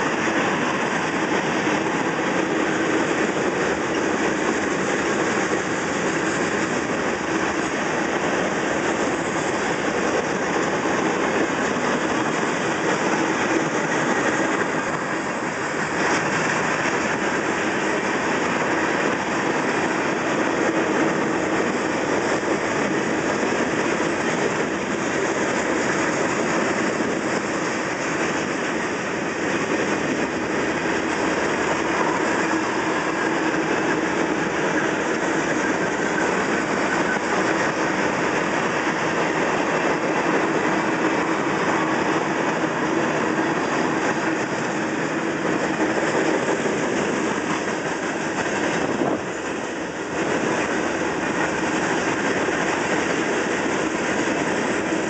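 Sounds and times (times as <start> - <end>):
freight train rolling past: 0.0 - 55.0
steel wheels on rails: 0.0 - 55.0.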